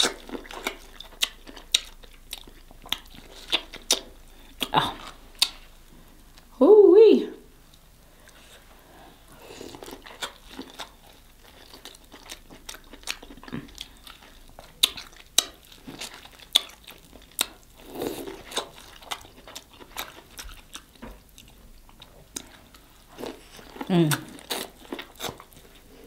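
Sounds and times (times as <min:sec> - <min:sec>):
person chewing corn on the cob: 0:00.0 - 0:05.6, 0:07.7 - 0:26.0.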